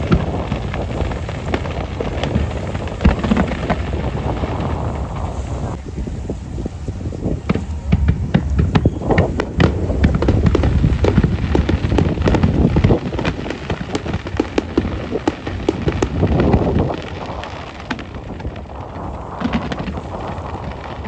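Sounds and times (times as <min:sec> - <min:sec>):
fireworks cracking and popping: 0:00.0 - 0:21.0
low rumble: 0:00.0 - 0:21.0.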